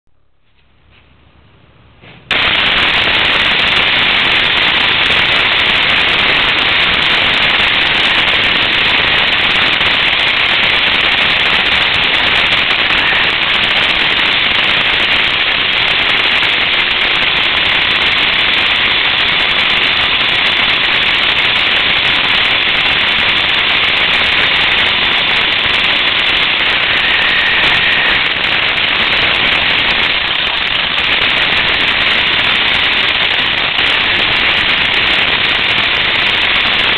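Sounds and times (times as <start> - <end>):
rc buggy running noise: 2.3 - 36.9.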